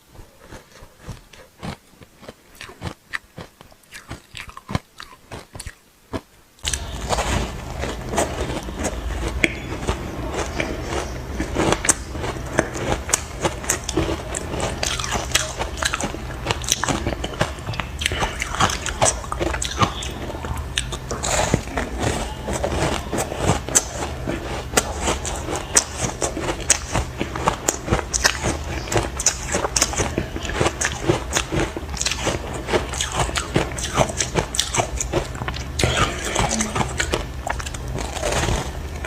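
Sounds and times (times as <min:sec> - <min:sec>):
ice chunks being chewed: 0:00.1 - 0:39.0.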